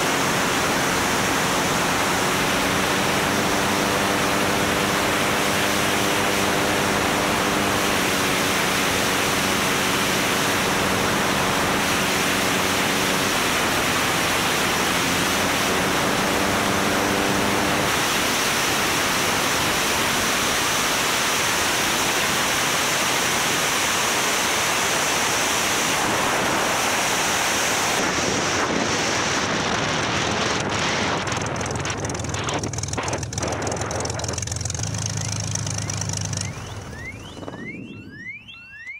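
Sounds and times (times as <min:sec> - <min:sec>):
wind rushing over microphone: 0:00.0 - 0:35.3, 0:36.2 - 0:38.3
propeller engine drone: 0:00.0 - 0:38.9.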